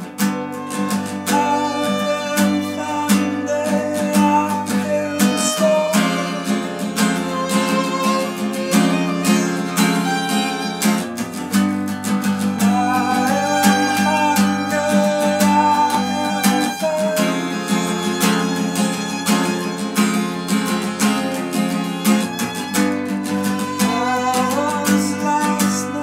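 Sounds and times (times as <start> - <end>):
acoustic guitar strumming: 0.0 - 26.0
violin melody: 0.0 - 26.0.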